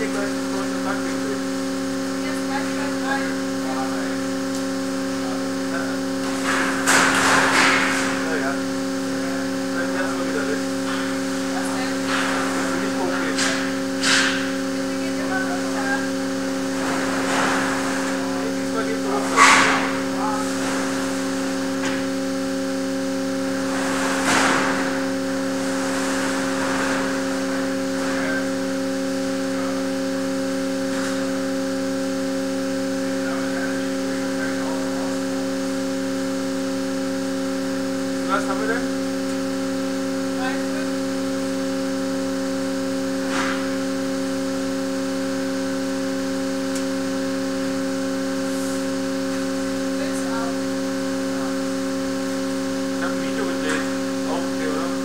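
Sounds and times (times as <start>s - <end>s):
multi-pitched machine hum: 0.0s - 55.0s.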